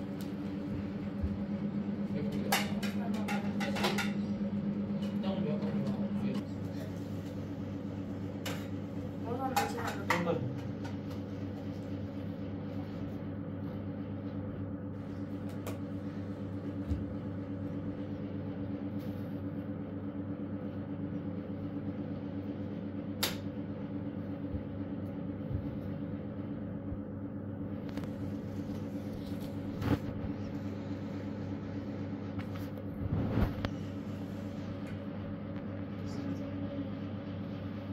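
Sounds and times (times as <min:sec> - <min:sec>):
appliance humming: 0:00.0 - 0:37.9.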